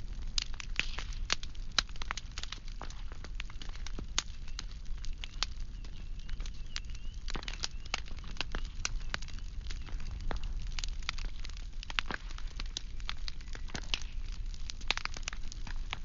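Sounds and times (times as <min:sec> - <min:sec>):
firewood crackling and popping: 0:00.0 - 0:16.0
low rumble of fire: 0:00.0 - 0:16.0.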